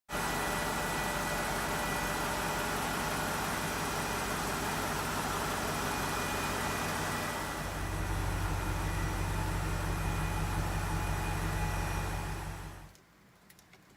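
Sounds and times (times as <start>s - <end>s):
car engine idling: 0.1s - 13.0s.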